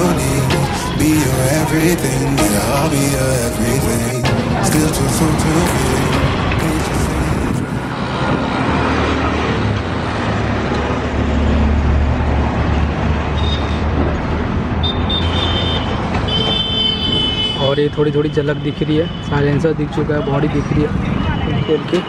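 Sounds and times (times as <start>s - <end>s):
truck engine rumbling: 0.0s - 18.0s
street traffic noise: 0.0s - 22.0s.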